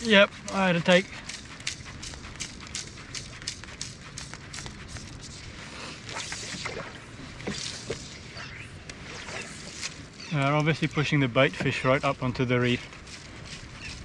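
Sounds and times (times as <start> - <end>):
line swishing through rod guides: 0.0 - 14.0.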